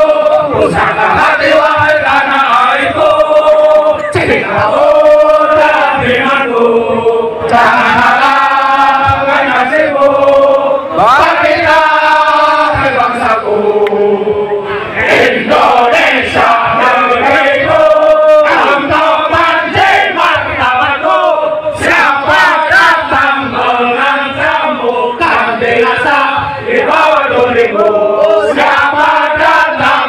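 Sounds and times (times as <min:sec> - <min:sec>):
men singing in unison: 0:00.0 - 0:30.0.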